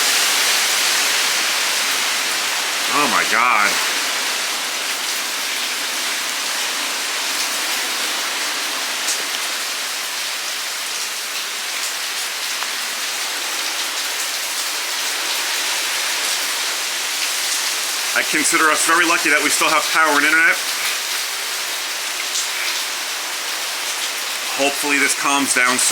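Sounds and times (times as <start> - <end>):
heavy rain pouring: 0.0 - 25.9.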